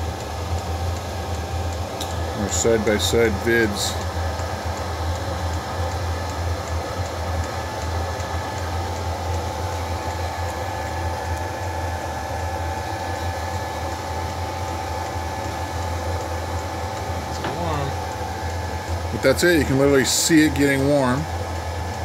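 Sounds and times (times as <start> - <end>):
engine low hum: 0.0 - 22.0
high-pitched whine: 2.0 - 22.0.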